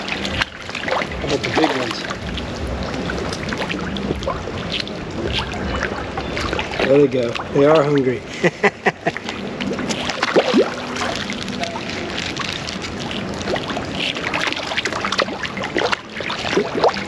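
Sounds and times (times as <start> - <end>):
fish splashing at water surface: 0.0 - 17.0.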